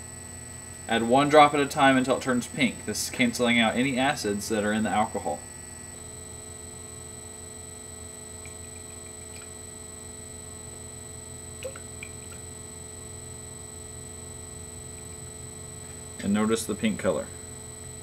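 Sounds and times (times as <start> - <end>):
electrical hum with high whine: 0.0 - 18.0.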